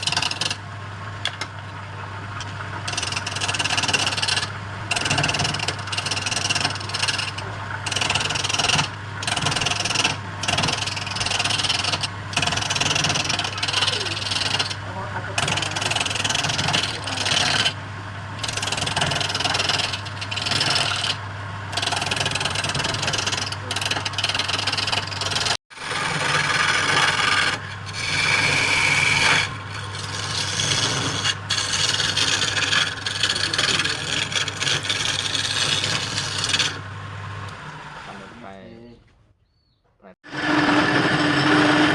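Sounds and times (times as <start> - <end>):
lathe hum: 0.0 - 0.6, 2.2 - 38.4, 40.2 - 41.9
tool scraping wood on lathe: 0.0 - 0.6, 2.4 - 17.8, 18.4 - 36.9, 40.2 - 41.9.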